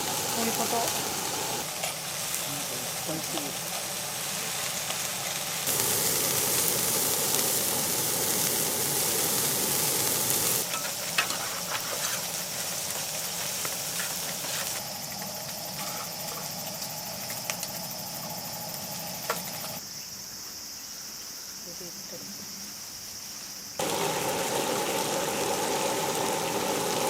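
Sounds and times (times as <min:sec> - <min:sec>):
food sizzling in a pan: 0:00.0 - 0:19.8, 0:22.7 - 0:27.0.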